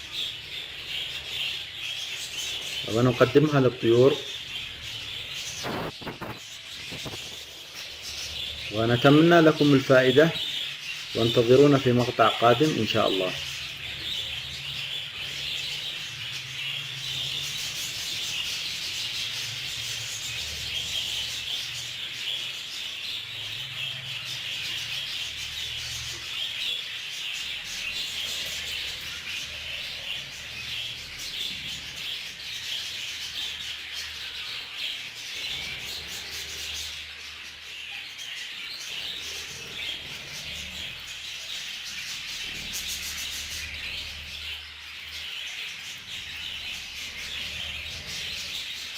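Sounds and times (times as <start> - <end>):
budgerigars chattering: 0.0 - 48.9.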